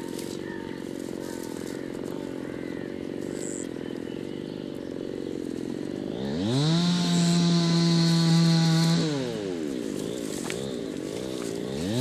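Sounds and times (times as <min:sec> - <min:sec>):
small engine revving: 0:00.0 - 0:12.0.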